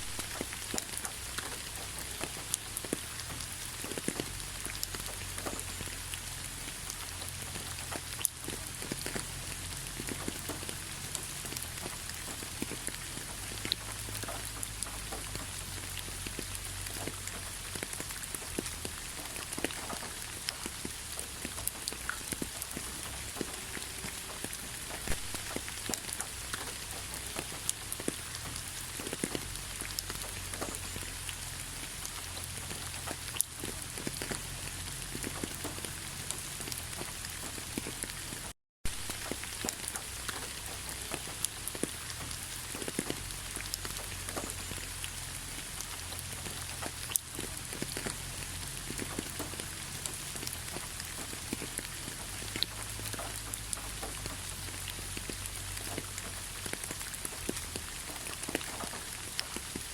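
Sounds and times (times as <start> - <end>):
raindrops ticking on a surface: 0.0 - 59.9
steady rain hiss: 0.0 - 59.9.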